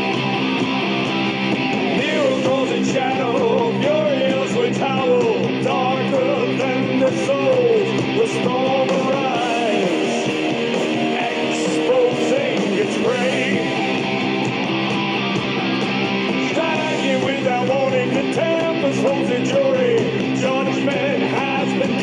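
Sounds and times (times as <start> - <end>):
bending guitar melody: 0.0 - 22.0
punk rock music: 0.0 - 22.0.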